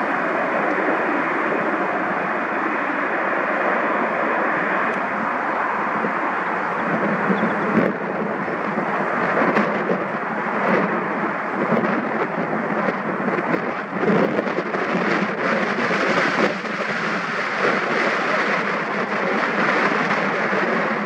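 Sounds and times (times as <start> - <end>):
jet engines rumbling at takeoff: 0.0 - 21.0.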